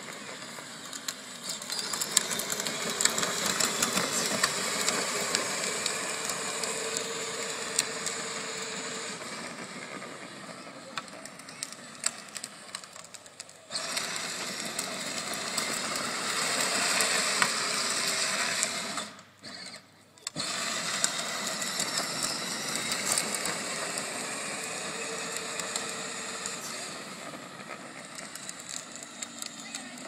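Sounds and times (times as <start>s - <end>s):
electric motors whining: 0.0s - 30.0s
plastic wheels grinding on asphalt: 0.0s - 30.0s.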